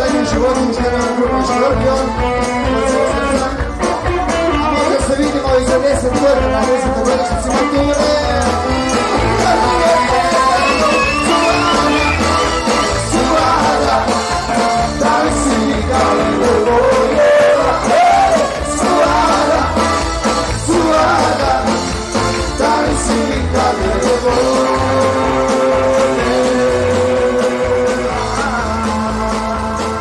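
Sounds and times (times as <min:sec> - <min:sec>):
loud band music: 0:00.0 - 0:30.0
person singing: 0:00.0 - 0:30.0.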